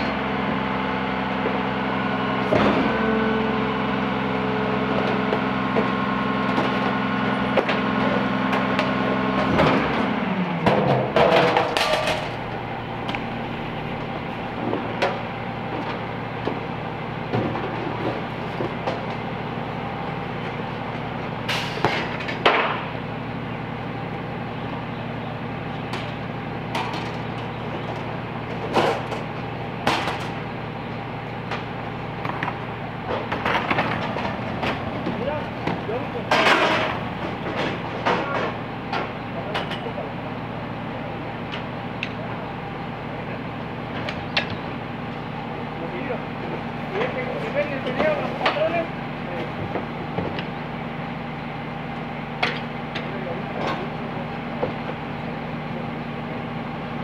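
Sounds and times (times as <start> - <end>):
garbage truck engine: 0.0 - 57.0.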